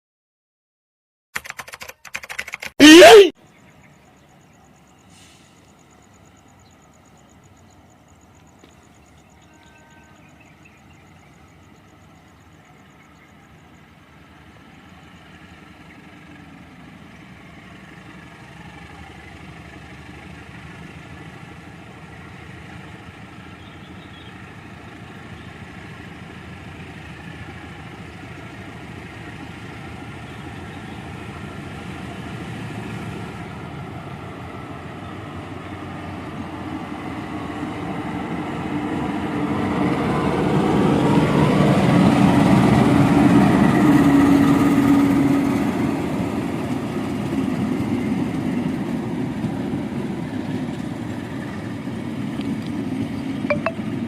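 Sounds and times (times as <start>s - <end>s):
train engine running: 10.5s - 54.0s.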